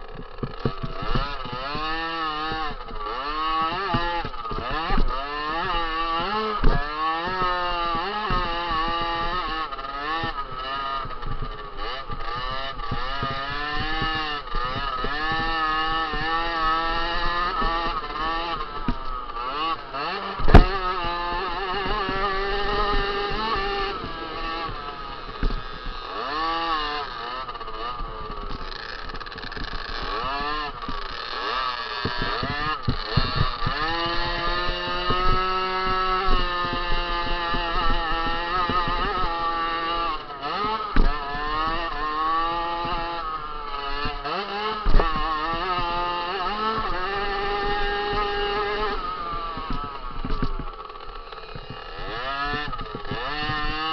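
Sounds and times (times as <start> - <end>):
sharp thumps: 0.0 - 53.9
two-stroke motorbike engine revving: 0.0 - 53.9.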